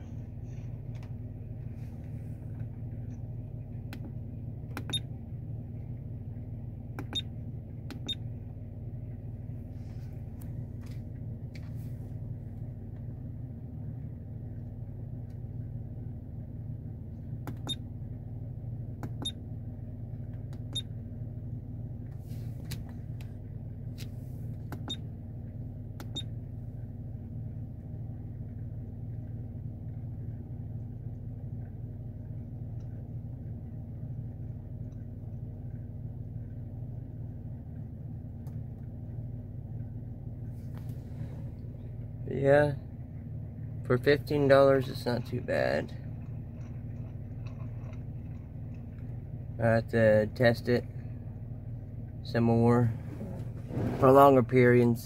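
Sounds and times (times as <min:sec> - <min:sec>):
car engine rumble inside cabin: 0:00.0 - 0:55.0.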